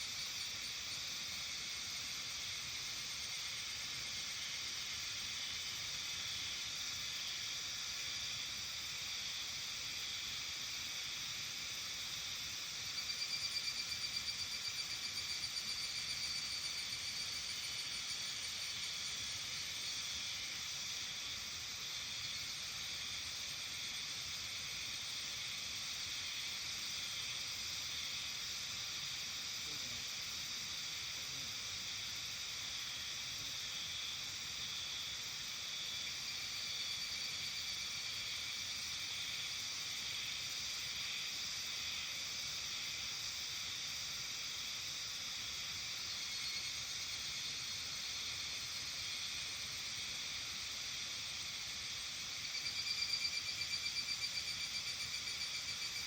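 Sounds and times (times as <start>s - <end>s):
insects chorus drone: 0.0s - 56.0s.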